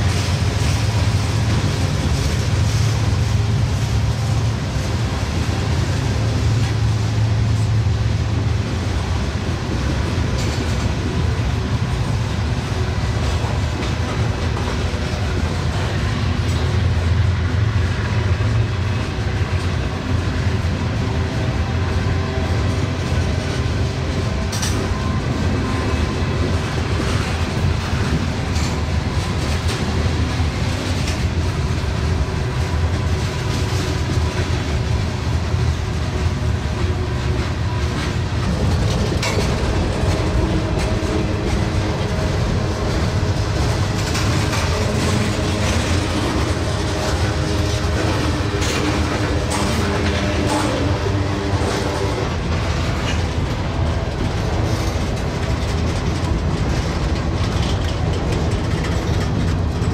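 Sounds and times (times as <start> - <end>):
train cars rolling on rails: 0.0 - 59.9
wheels clicking over rail joints: 0.0 - 59.9.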